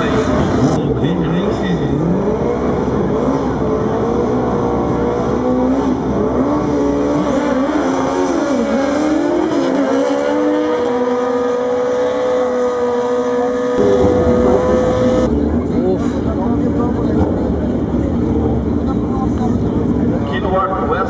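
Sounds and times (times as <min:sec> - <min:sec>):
motorcycles accelerating hard: 0:00.0 - 0:19.8
steady engine drone: 0:00.0 - 0:21.0.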